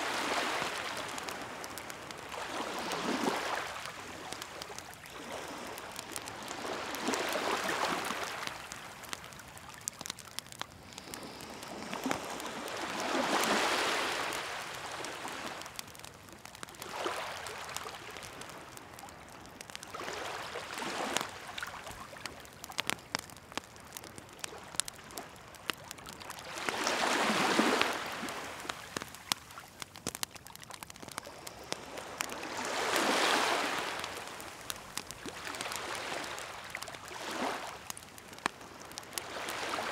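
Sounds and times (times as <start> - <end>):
bonfire crackling and popping: 0.0 - 39.9
waves washing on shore: 0.0 - 39.9.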